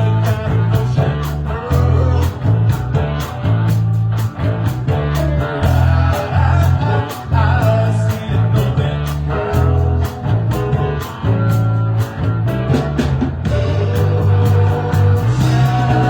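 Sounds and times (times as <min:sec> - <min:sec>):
guitar lines: 0:00.0 - 0:16.0
heavy bass line: 0:00.0 - 0:16.0
live blues-rock band: 0:00.0 - 0:16.0.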